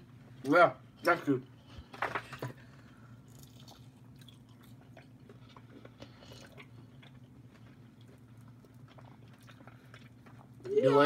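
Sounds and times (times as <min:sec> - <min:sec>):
low steady hum: 0:00.0 - 0:11.0
people chewing food: 0:01.0 - 0:11.0.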